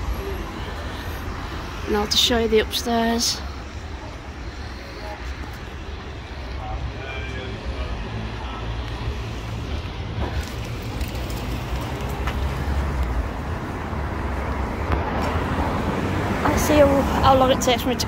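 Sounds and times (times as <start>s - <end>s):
cars passing: 0.0s - 18.0s
low traffic rumble: 0.0s - 18.0s.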